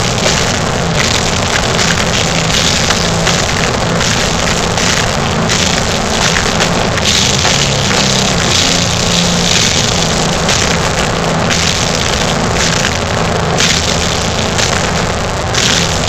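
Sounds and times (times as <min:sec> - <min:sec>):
bass guitar: 0:00.0 - 0:16.0
distorted guitars: 0:00.0 - 0:16.0
drum kit: 0:00.0 - 0:16.0.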